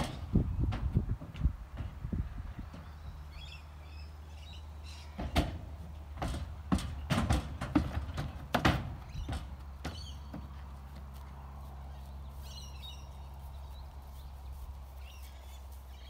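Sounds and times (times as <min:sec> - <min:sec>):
hooves clattering on trailer floor: 0:00.0 - 0:03.2, 0:05.1 - 0:16.0.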